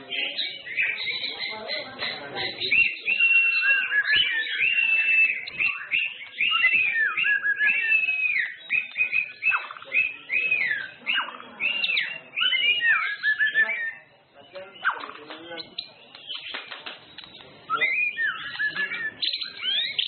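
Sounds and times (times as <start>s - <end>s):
bird singing whistled phrases: 0.1s - 20.0s.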